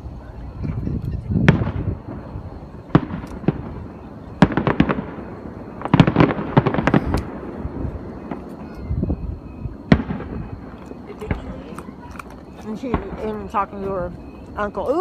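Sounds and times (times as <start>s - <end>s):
fireworks cracking: 0.5s - 15.0s.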